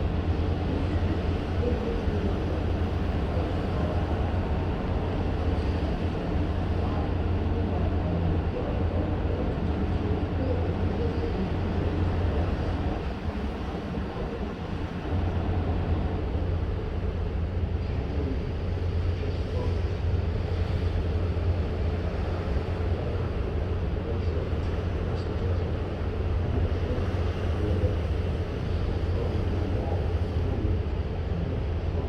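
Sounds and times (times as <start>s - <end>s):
ship engine droning rumble: 0.0s - 32.0s
wash of sea noise: 0.0s - 32.0s.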